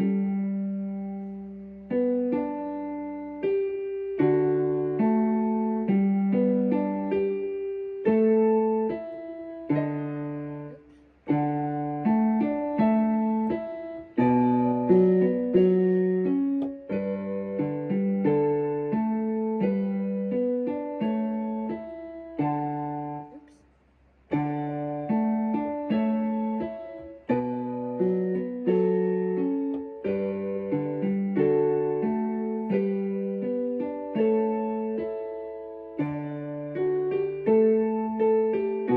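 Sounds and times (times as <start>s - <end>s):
mellow piano melody: 0.0s - 23.6s, 24.3s - 38.9s.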